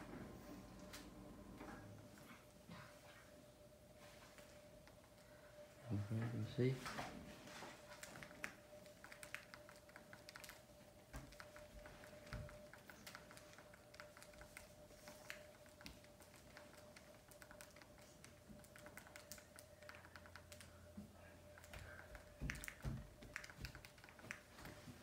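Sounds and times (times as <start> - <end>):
faint humming tone: 0.0 - 25.0.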